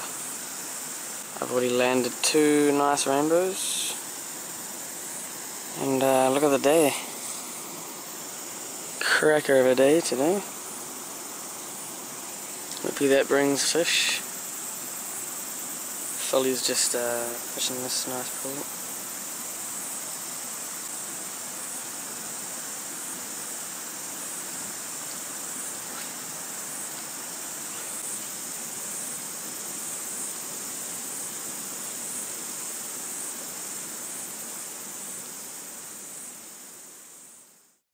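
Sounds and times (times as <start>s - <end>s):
river running over rocks: 0.0s - 37.1s
insects chirring: 0.0s - 37.8s.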